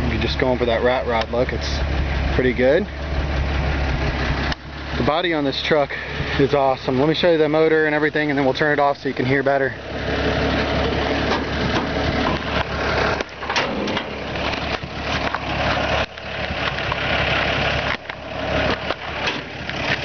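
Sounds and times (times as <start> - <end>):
pickup engine idling: 0.0 - 20.0.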